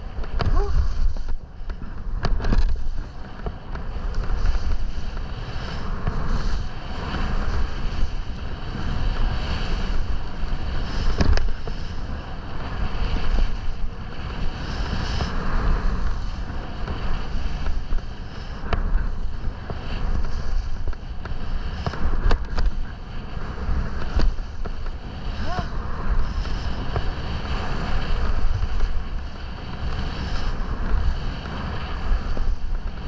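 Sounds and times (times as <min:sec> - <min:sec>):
skis scraping through snow: 0:00.0 - 0:33.0
wind rushing over microphone: 0:00.0 - 0:33.0.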